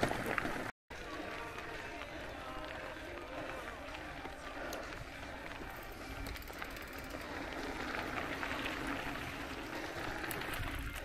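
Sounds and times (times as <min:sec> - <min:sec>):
bike rattles and ticks: 0:00.0 - 0:11.0
bike tyres crunching on gravel: 0:00.0 - 0:11.0.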